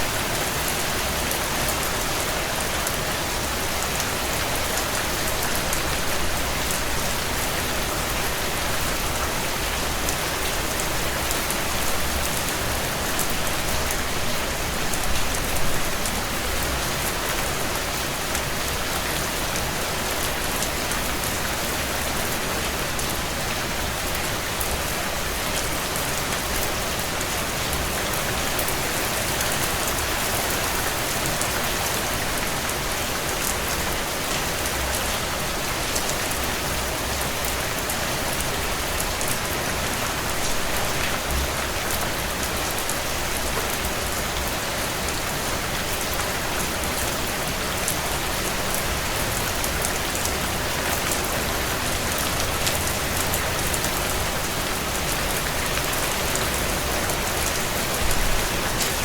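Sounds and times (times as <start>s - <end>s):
heavy rain on window panes: 0.0s - 59.0s.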